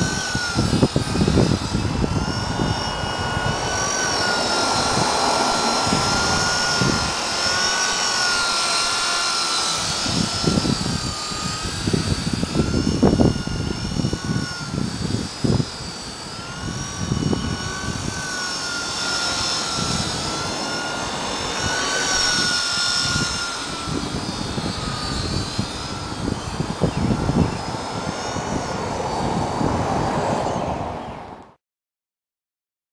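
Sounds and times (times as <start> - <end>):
low rumbles: 0.0 - 31.0
rc helicopter rotor whine: 0.0 - 31.6.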